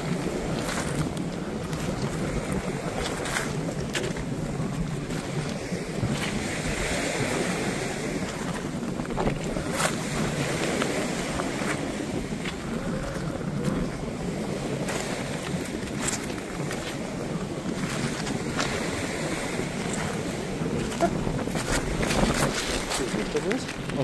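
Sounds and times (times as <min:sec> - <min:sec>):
footsteps on pebbles: 0:00.0 - 0:24.0
small waves washing on shore: 0:00.0 - 0:24.0
wind buffeting microphone: 0:00.0 - 0:24.0.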